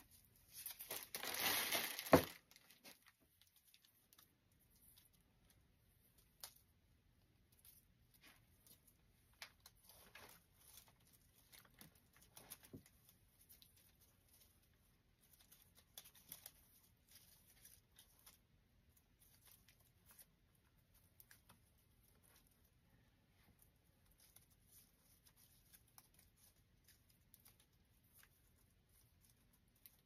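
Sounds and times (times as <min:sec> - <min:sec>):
twigs rustling and clicking: 0:00.0 - 0:30.0.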